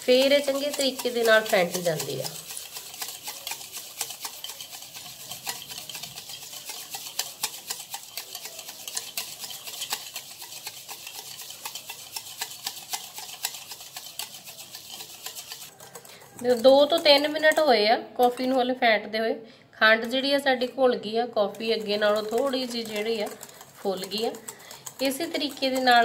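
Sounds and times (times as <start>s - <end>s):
whisk clicking against bowl: 0.0s - 18.6s, 20.0s - 26.0s.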